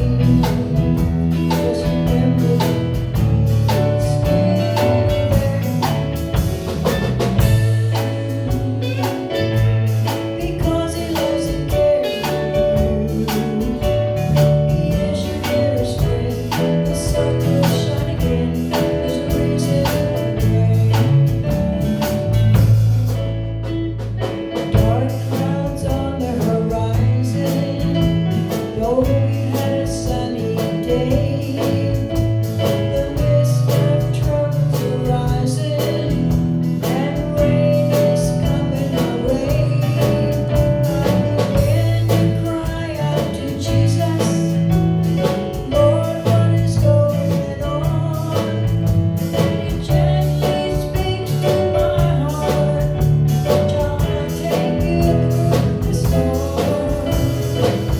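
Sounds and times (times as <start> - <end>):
woman singing: 0.0 - 22.8, 24.6 - 57.9
country gospel song: 0.0 - 57.9.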